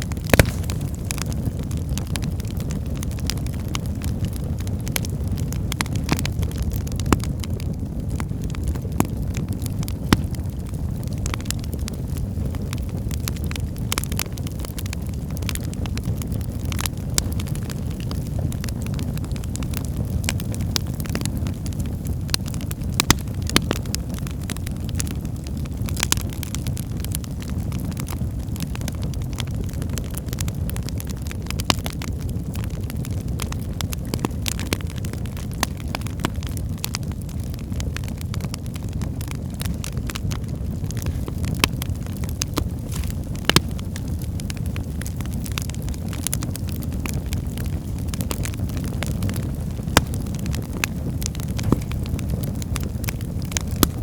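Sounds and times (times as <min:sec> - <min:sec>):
crackling and popping logs: 0:00.0 - 0:54.0
low rumble of flames: 0:00.0 - 0:54.0.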